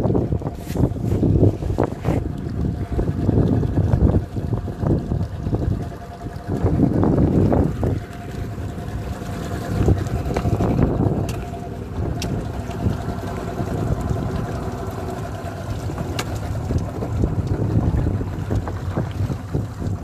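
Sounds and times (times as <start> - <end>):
boat engine humming: 0.0 - 20.0
water splashing: 0.0 - 20.0
wind buffeting microphone: 0.0 - 20.0.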